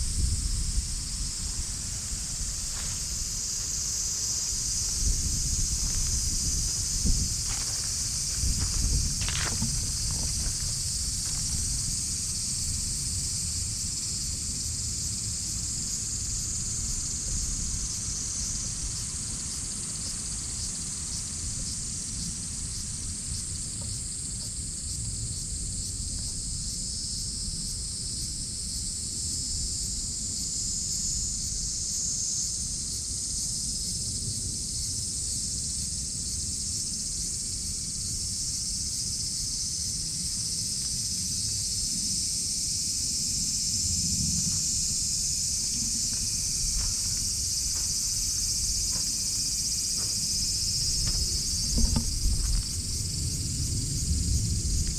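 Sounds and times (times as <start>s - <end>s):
cicadas buzzing: 0.0s - 54.9s.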